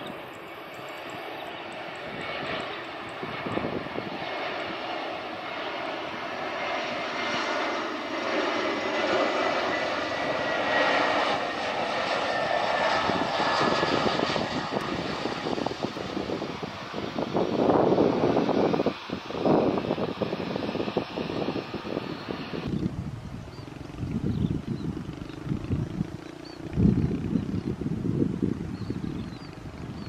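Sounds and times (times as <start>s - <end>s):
airliner engines rushing: 0.0s - 30.0s
high engine whine: 0.0s - 30.0s.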